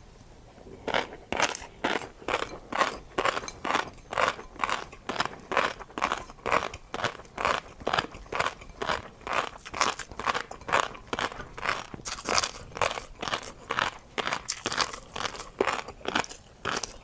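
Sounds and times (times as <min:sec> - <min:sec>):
crunchy chewing: 0:00.6 - 0:17.0.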